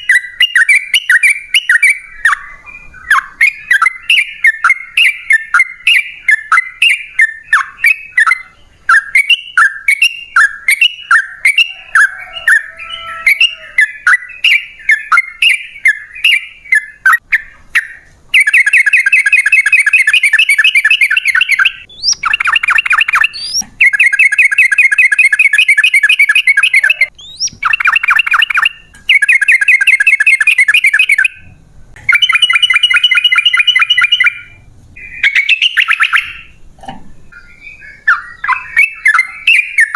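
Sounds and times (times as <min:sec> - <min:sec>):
bird chirping notes: 0:00.0 - 0:39.9.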